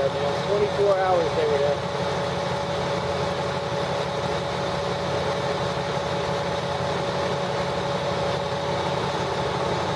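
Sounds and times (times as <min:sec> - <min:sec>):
vehicle engine idling: 0:00.0 - 0:09.9.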